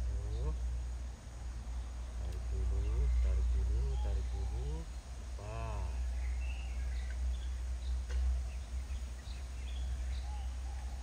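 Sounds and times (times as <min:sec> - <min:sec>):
bird chirps: 0:01.6 - 0:11.0.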